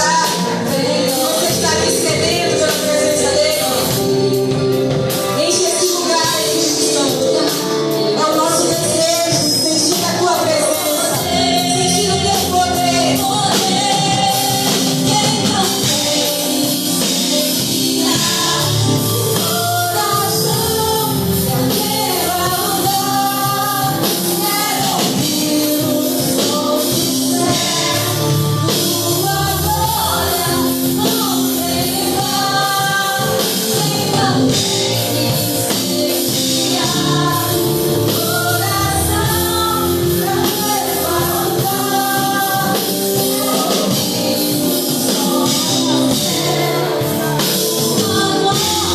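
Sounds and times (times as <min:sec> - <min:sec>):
drums and cymbals: 0:00.0 - 0:48.9
gospel singing with band: 0:00.0 - 0:48.9.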